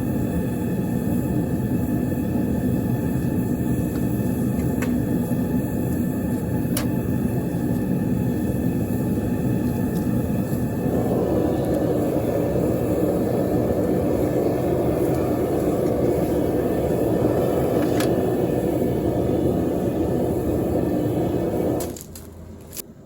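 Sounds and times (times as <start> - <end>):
gas burner roaring: 0.0 - 23.0.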